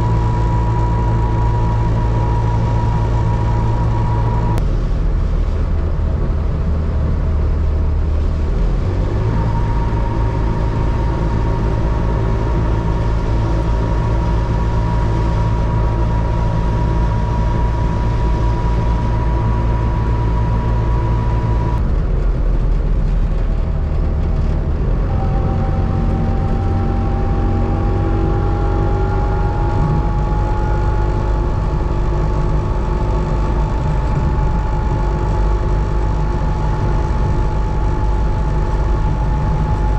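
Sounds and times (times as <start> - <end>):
two-stroke car engine whining: 0.0 - 4.6, 7.6 - 22.2, 23.7 - 39.9.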